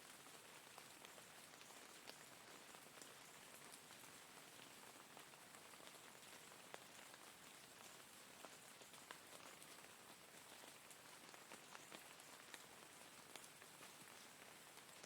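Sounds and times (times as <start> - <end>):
faint rain hiss: 0.0 - 15.0
raindrops ticking: 0.6 - 15.0.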